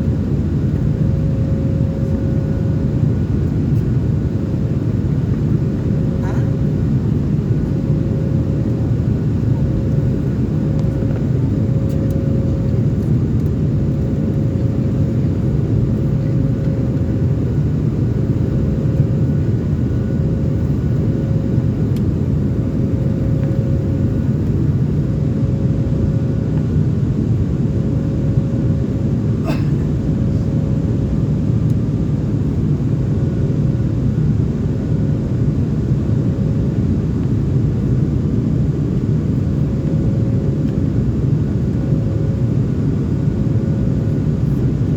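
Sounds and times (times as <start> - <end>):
airliner cabin engine rumble: 0.0 - 44.9
steady hum: 0.0 - 44.9.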